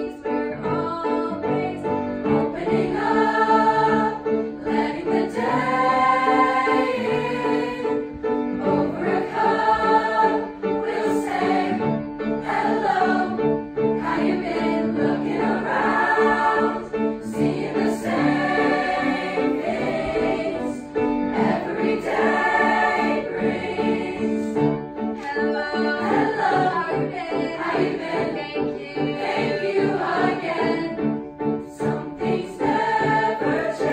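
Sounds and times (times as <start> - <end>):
grand piano: 0.0 - 33.9
youth choir singing: 0.0 - 33.9.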